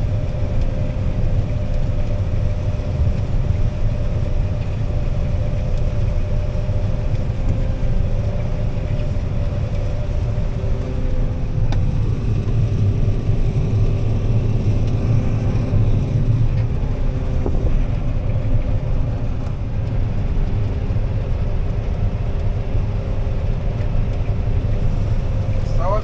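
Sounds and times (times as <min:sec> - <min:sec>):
combine harvester rumbling: 0:00.0 - 0:26.0.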